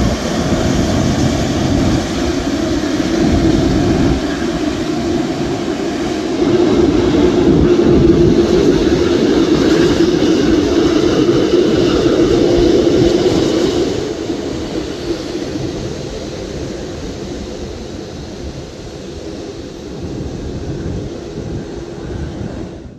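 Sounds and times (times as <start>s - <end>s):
jet engines roaring: 0.0s - 22.9s.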